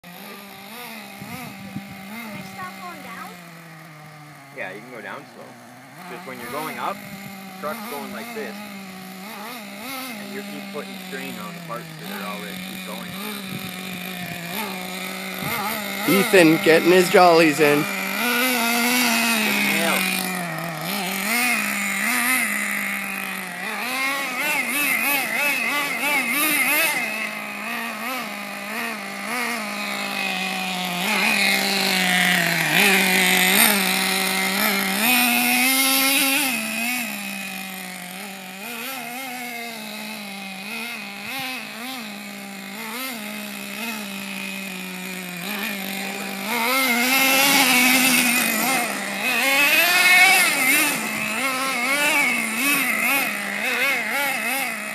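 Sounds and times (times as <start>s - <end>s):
toy truck nitro engine revving: 0.0s - 54.9s.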